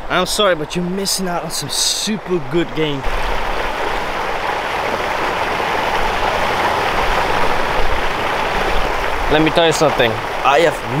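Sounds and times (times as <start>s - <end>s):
pool water splashing and churning: 0.0s - 11.0s.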